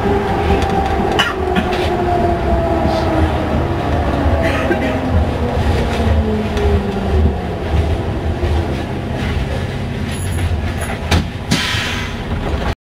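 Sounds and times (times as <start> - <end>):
train wheels rumbling: 0.0 - 12.8.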